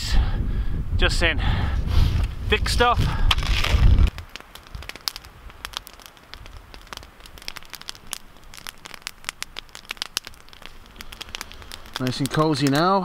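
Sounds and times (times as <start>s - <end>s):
wood fire crackling: 1.4s - 13.0s.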